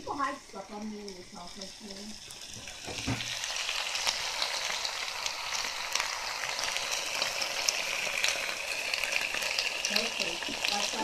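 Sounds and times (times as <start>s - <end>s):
chicken frying in a pan: 0.0s - 11.0s.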